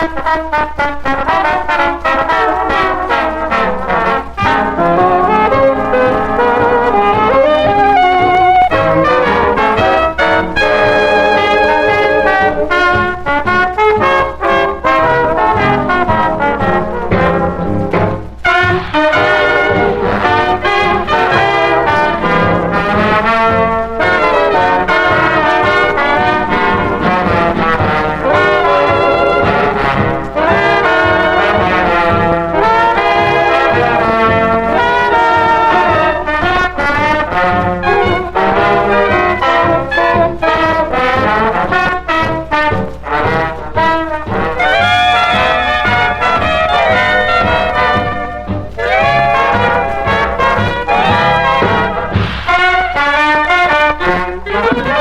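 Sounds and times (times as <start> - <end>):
big band swing music: 0.0 - 55.0
trombones and trumpets: 0.0 - 55.0.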